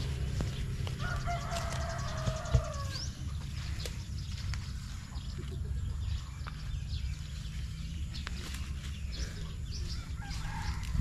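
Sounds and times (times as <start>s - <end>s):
birds chirping: 0.0s - 11.0s
steady low rumble: 0.0s - 11.0s.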